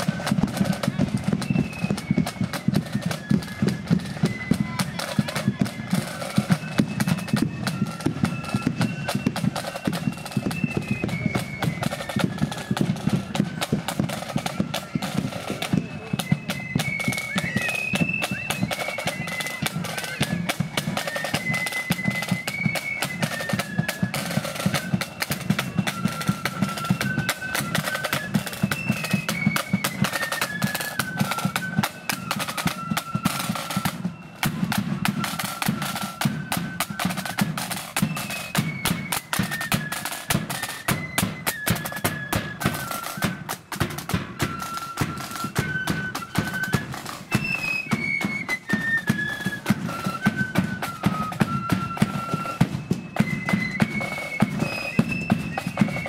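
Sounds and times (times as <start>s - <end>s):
flutes playing melody: 0.0s - 56.0s.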